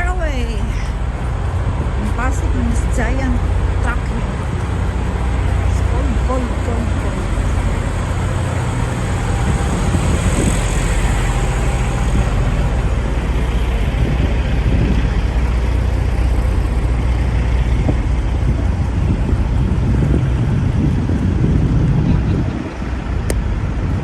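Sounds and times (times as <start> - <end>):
truck diesel engine idling: 0.0 - 21.2.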